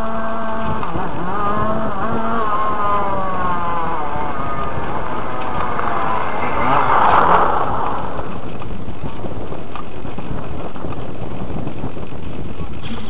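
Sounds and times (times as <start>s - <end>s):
model aeroplane engine: 0.0s - 13.0s
air rushing over camera: 0.2s - 12.9s.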